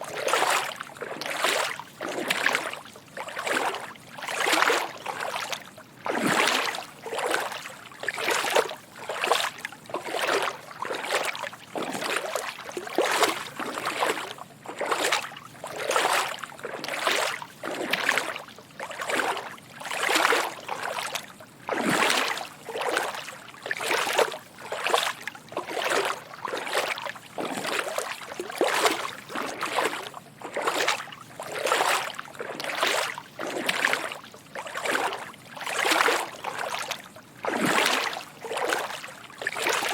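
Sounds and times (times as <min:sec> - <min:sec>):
footsteps wading through water: 0:00.0 - 0:39.9.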